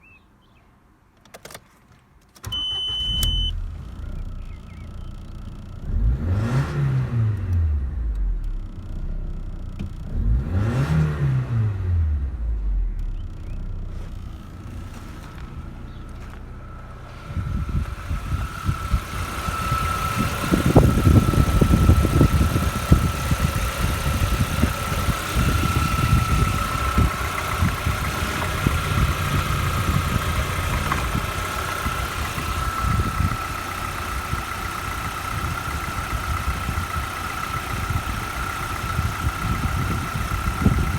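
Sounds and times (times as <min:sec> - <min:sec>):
car engine idling: 0:02.5 - 0:10.8, 0:11.8 - 0:40.9.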